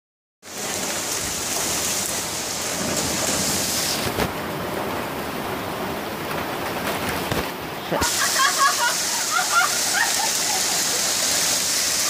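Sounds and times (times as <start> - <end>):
heavy rain pouring: 0.4 - 12.0.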